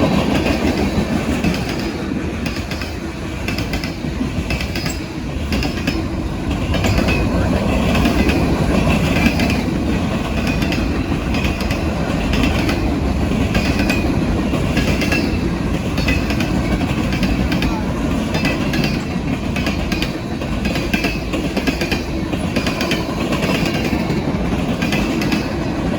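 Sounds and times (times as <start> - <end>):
freight train cars rolling: 0.0 - 25.9
wheels clicking over rail joints: 0.0 - 25.9.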